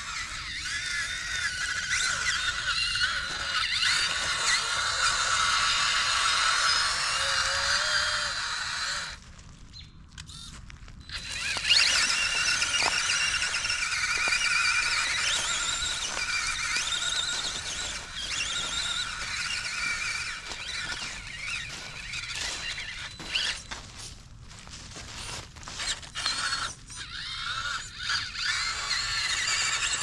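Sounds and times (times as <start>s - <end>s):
electric motor whining: 0.0s - 9.2s, 11.0s - 24.1s, 24.9s - 30.0s.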